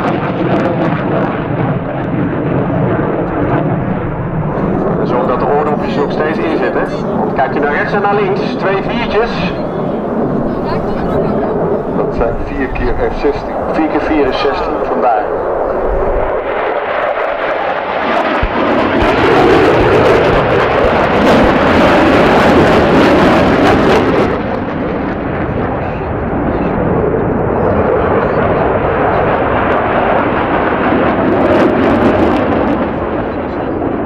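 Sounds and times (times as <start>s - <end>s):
fighter jets flying overhead: 0.0s - 34.0s.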